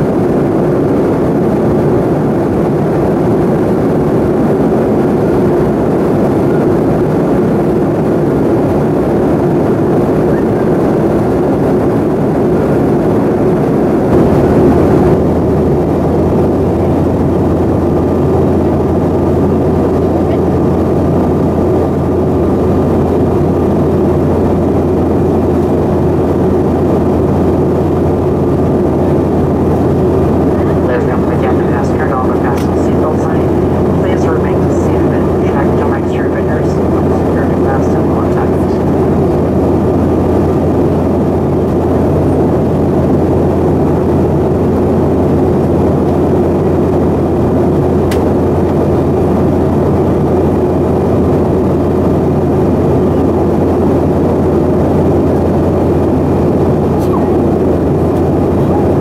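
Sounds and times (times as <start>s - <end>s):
jet engines and airflow in cabin: 0.0s - 59.0s.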